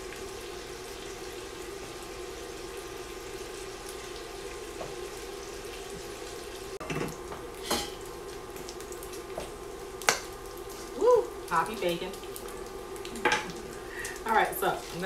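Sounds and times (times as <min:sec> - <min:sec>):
bacon sizzling: 0:00.0 - 0:15.0.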